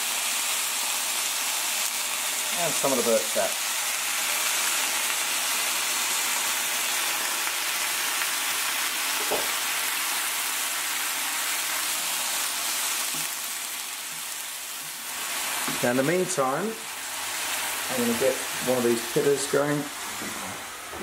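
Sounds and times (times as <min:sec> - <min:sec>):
vegetables sizzling in frying pan: 0:00.0 - 0:21.0.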